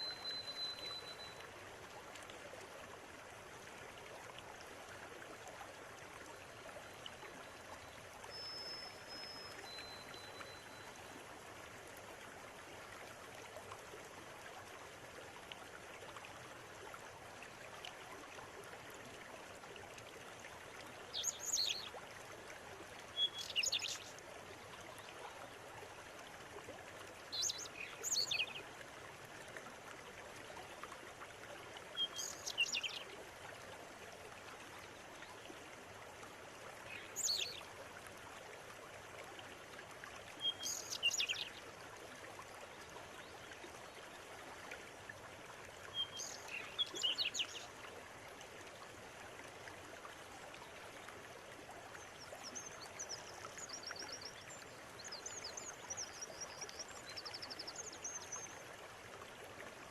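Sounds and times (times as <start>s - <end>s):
river water running: 0.0s - 59.9s.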